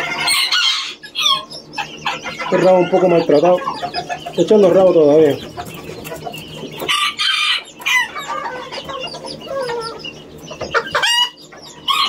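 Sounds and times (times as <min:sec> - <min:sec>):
hens clucking: 0:00.0 - 0:12.0
roosters crowing: 0:00.0 - 0:12.0.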